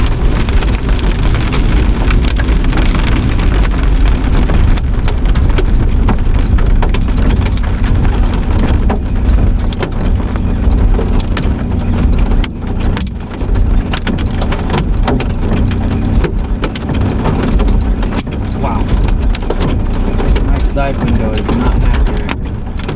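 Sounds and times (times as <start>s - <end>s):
heavy rain: 0.0s - 22.9s
low rumble: 0.0s - 22.9s
sharp raindrop hits: 0.0s - 22.9s.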